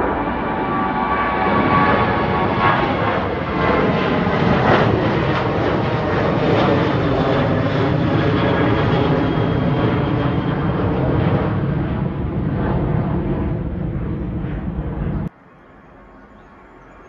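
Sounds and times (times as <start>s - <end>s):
aircraft engines at high power: 0.0s - 17.0s.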